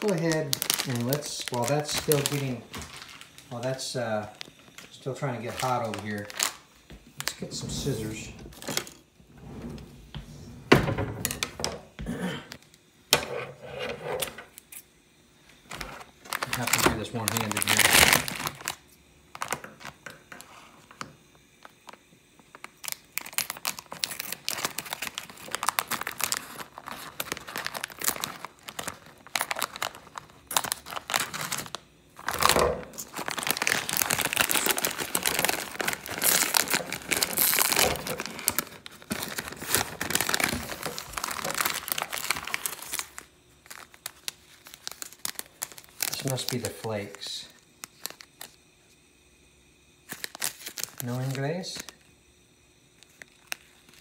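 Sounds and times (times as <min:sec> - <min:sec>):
plastic packet crinkling: 0:00.0 - 0:09.1, 0:15.6 - 0:20.4, 0:21.8 - 0:48.6, 0:50.1 - 0:52.0, 0:53.0 - 0:54.0.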